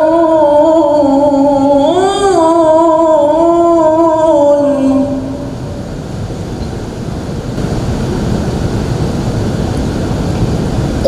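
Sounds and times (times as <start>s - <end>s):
low rushing background noise: 0.0s - 11.0s.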